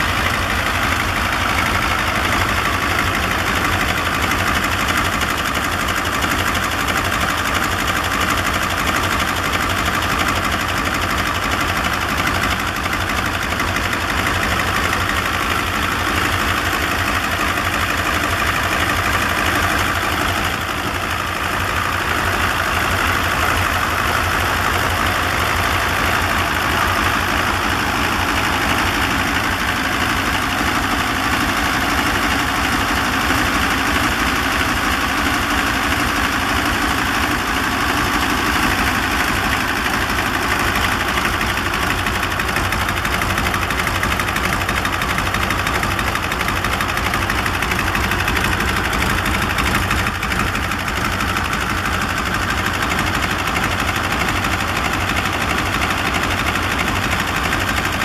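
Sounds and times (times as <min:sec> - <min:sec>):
radial diesel engine running: 0:00.0 - 0:58.0.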